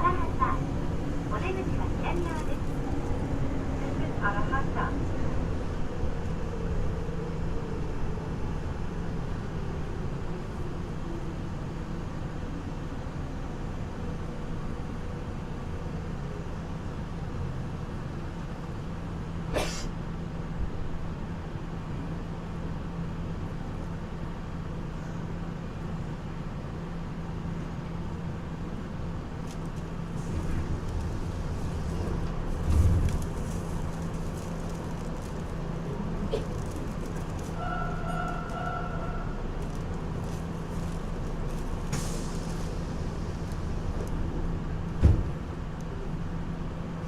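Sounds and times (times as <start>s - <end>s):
moving train rumble: 0.0s - 47.0s.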